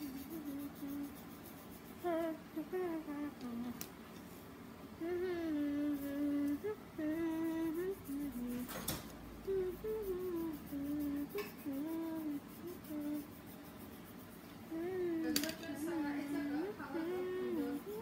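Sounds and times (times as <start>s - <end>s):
girl humming: 0.0s - 1.2s, 2.0s - 3.9s, 5.0s - 13.6s, 14.7s - 15.6s, 16.3s - 18.0s.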